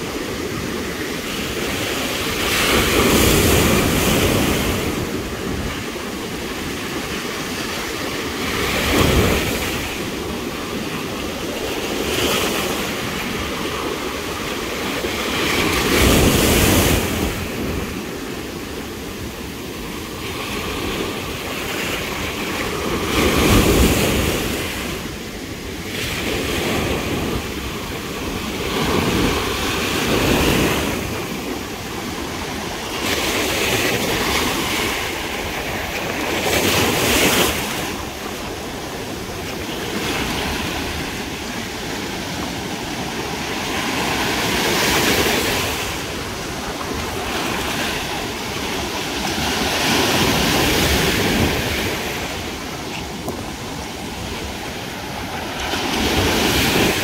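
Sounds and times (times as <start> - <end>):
ocean surf breaking: 0.0 - 57.0.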